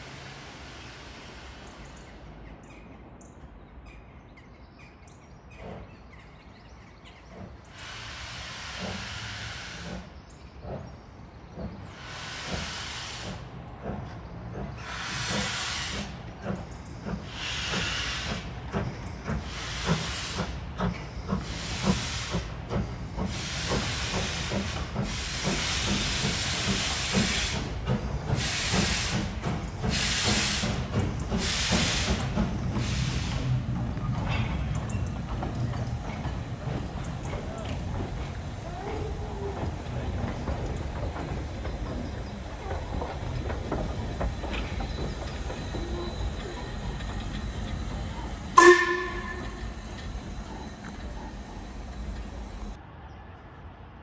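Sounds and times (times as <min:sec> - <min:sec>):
train rumble: 0:00.0 - 0:52.8
steam locomotive exhaust beats: 0:07.4 - 0:52.8.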